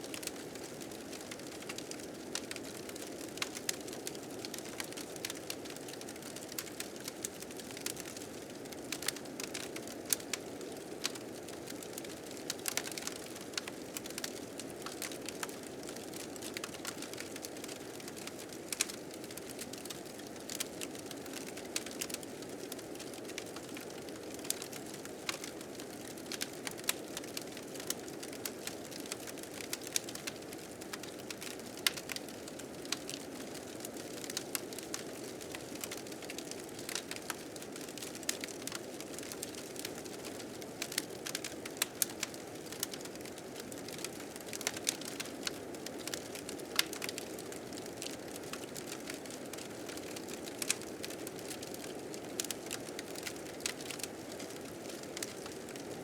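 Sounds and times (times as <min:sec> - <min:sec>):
fire crackling and popping: 0:00.1 - 0:56.0.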